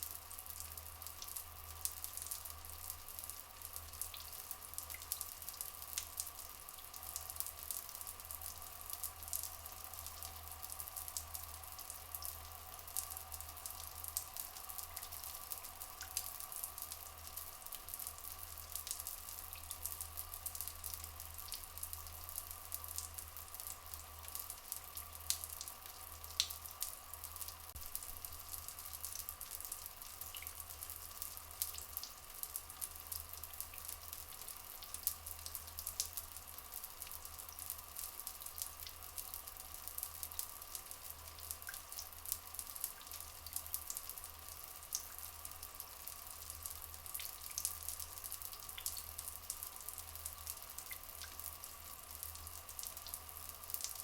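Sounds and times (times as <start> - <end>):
trickling water: 0.0 - 54.0
water drips and splashes: 0.0 - 54.0.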